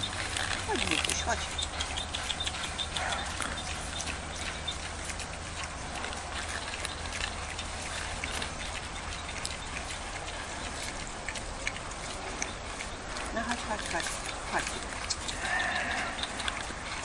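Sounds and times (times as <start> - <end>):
boars rooting in dry litter: 0.0 - 17.0
rustling with small crackles: 0.0 - 17.0.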